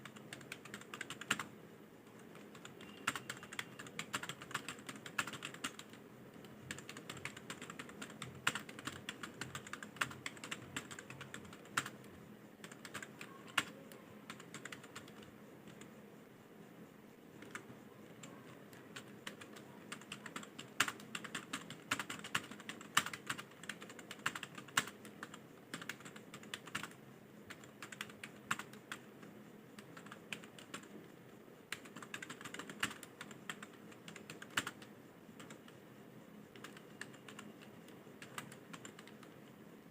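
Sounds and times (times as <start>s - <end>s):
computer keyboard typing: 0.0s - 1.5s, 2.1s - 16.0s, 17.4s - 31.1s, 31.7s - 35.8s, 36.5s - 39.9s.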